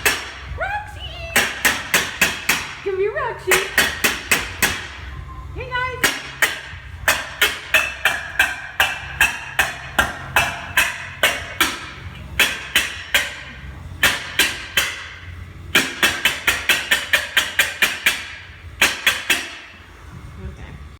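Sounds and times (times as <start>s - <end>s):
loud ringing banging: 0.0s - 20.0s.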